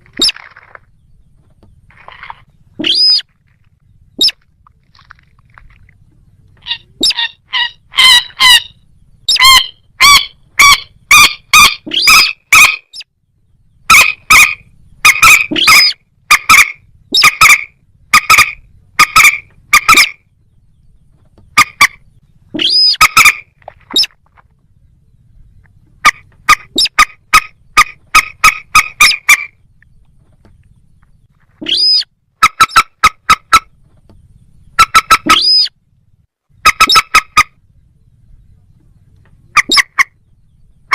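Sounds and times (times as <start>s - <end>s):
rail bird calling: 0.0s - 35.9s, 36.5s - 40.9s.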